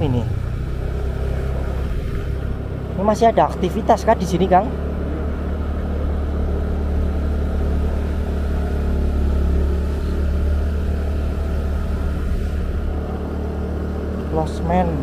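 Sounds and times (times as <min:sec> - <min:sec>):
motorcycle engine drone: 0:00.0 - 0:15.0
wind and road noise: 0:00.0 - 0:15.0.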